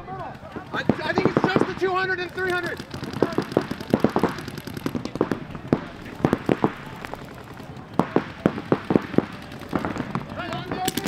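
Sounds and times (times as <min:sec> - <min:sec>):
paintball markers firing: 0:00.1 - 0:11.0.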